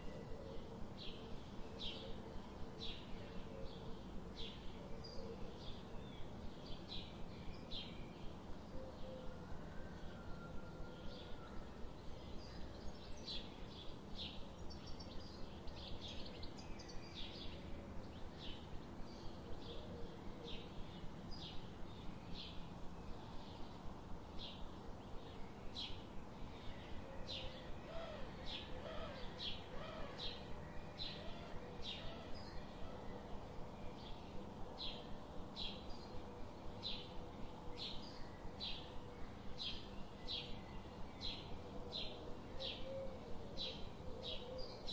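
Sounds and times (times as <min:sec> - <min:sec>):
faint background noise: 0:00.0 - 0:44.9.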